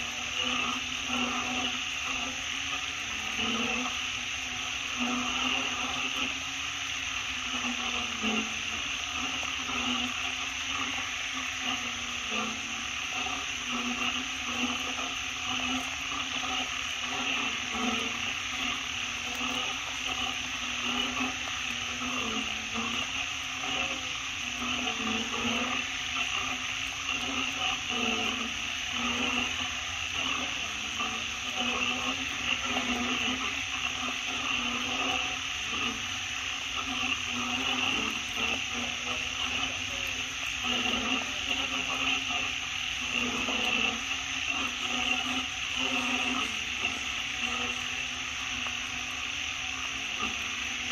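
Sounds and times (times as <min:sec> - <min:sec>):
steady high hiss: 0:00.0 - 0:50.9.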